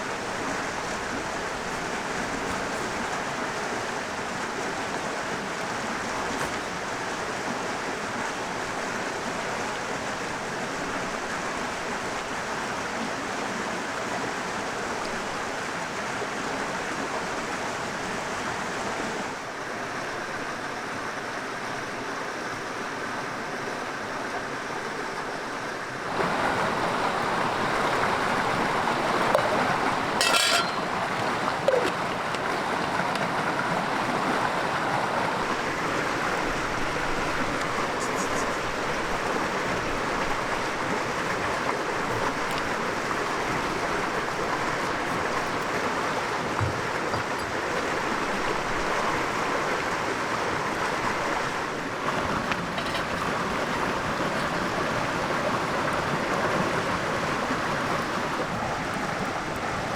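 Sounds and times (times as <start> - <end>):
river water running: 0.0 - 59.9.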